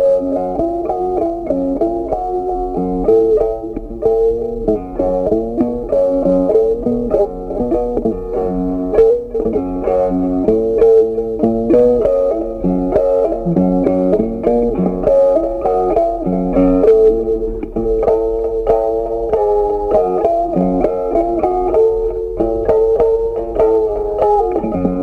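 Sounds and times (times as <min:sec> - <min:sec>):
plucked string instrument melody: 0:00.0 - 0:25.0.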